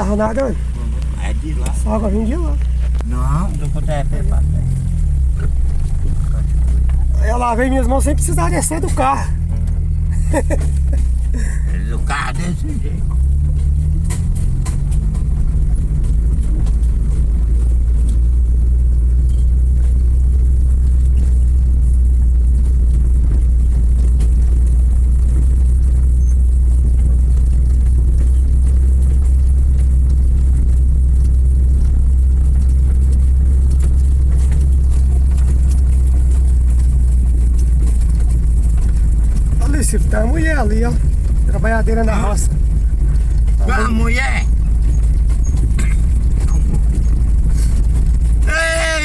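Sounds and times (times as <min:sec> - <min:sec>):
car engine and road rumble: 0:00.0 - 0:49.0.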